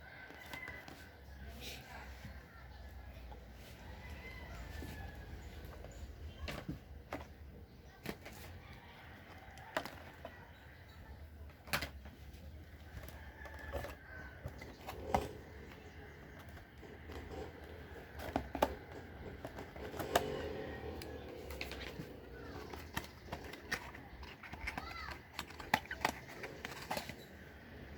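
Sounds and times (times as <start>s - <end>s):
clicks and knocks of handling: 4.8s - 27.9s.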